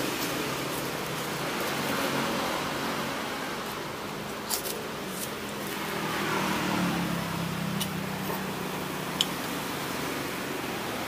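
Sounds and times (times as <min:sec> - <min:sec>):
roadside traffic noise: 0:00.0 - 0:11.0
vehicle engine hum: 0:00.0 - 0:11.0.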